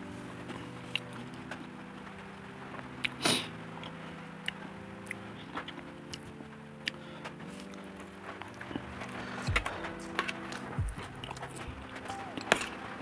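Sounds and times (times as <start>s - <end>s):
soft background music chords: 0.0s - 13.0s.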